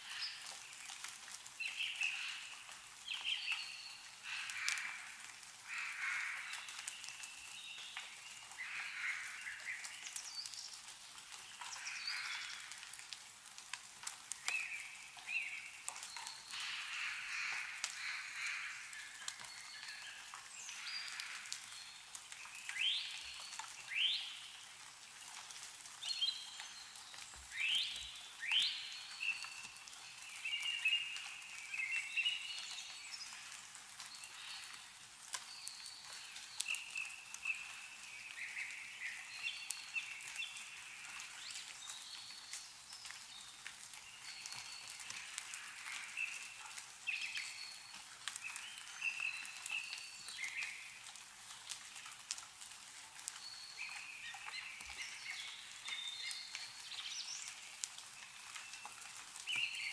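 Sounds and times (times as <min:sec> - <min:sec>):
snow dripping from trees: 0:00.0 - 0:59.9
songbirds singing: 0:01.6 - 0:12.9, 0:14.4 - 0:24.8, 0:26.0 - 0:51.1, 0:53.2 - 0:59.9.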